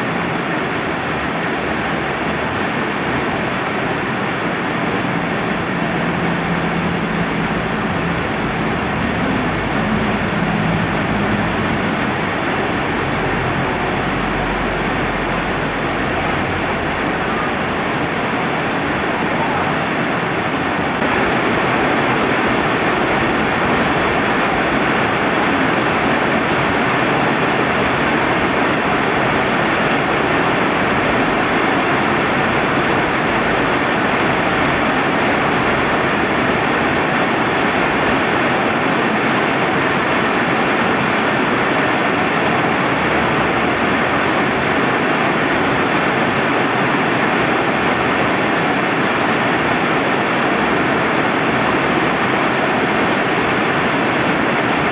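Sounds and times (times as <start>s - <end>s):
rain falling: 0.0s - 54.9s
river water running: 0.0s - 54.9s.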